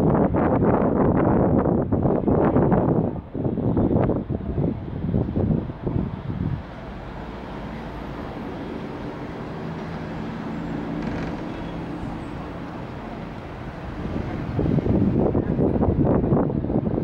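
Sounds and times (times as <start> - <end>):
gondola mechanical hum: 0.0 - 17.0
wind buffeting microphone: 0.0 - 17.0.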